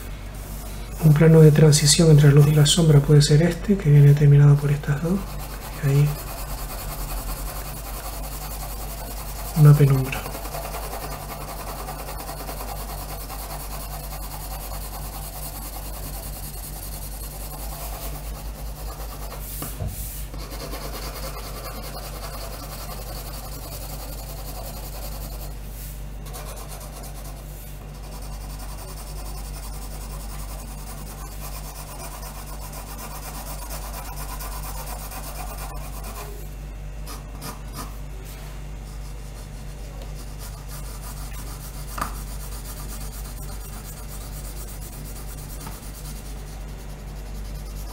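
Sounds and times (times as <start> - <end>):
pencil scratching on paper: 0.0 - 19.7, 20.3 - 36.4, 37.0 - 38.0, 38.8 - 47.9
steady low hum: 0.0 - 47.9.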